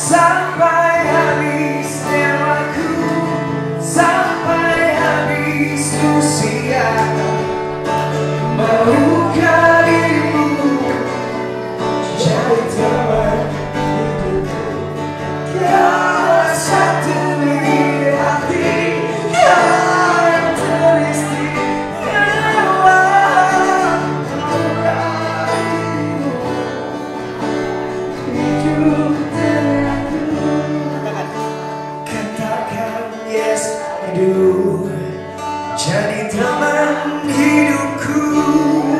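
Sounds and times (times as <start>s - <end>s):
men singing into microphones: 0.0s - 26.8s, 28.1s - 35.2s, 35.8s - 38.9s
acoustic guitar: 0.0s - 38.9s.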